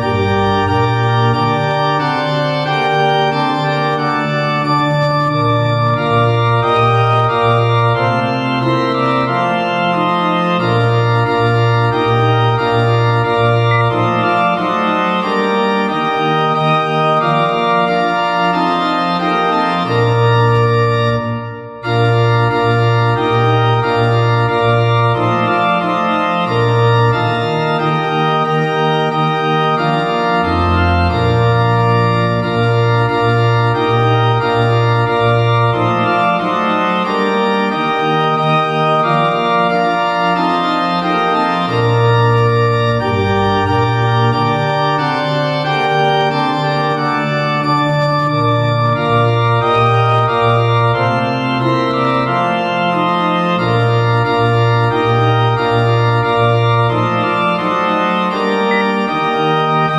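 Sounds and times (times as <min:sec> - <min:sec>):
organ playing a hymn: 0:00.0 - 0:59.9.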